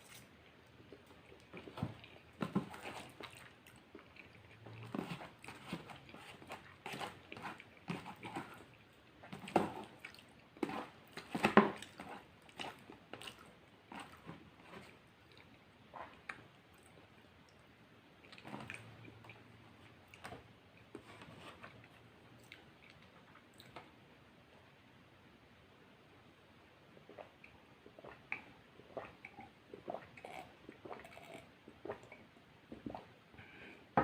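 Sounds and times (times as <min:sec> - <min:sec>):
chewing with wet smacks: 0:00.0 - 0:21.0, 0:21.7 - 0:24.0, 0:27.0 - 0:33.1.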